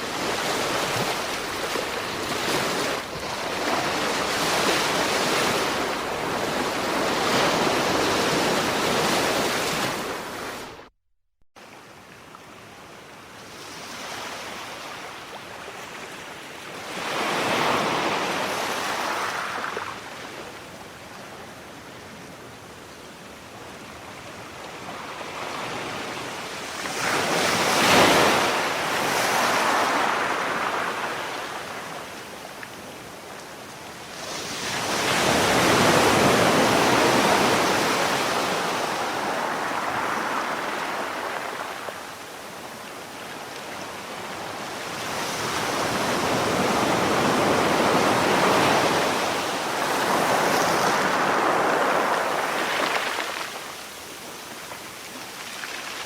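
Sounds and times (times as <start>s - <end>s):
sea waves breaking on shore: 0.0s - 10.9s, 13.4s - 20.7s, 23.8s - 56.0s.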